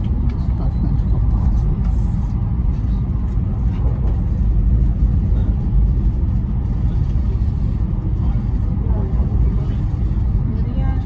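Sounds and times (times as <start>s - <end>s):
train rumble inside cabin: 0.0s - 11.0s.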